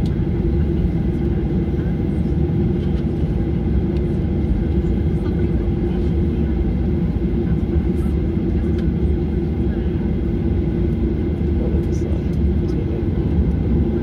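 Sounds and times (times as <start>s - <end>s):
jet engines deep rumble: 0.0s - 14.0s.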